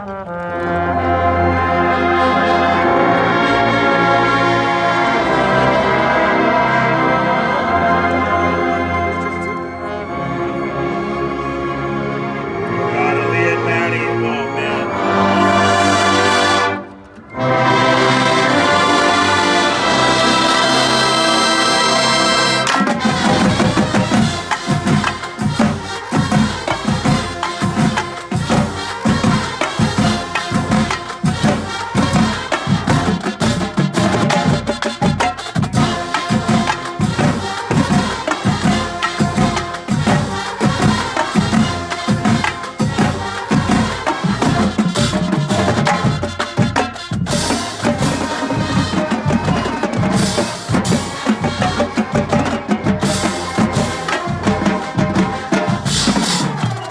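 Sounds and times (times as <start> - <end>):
marching drumline cadence: 0.0 - 56.9.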